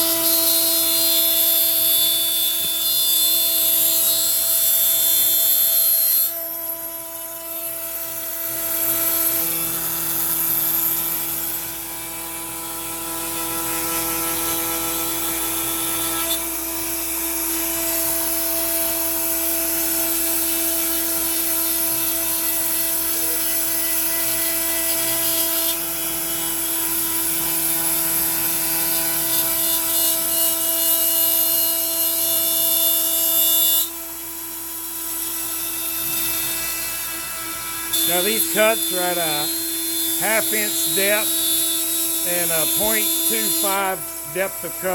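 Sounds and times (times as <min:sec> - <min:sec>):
router whining while cutting wood: 0:00.0 - 0:44.9.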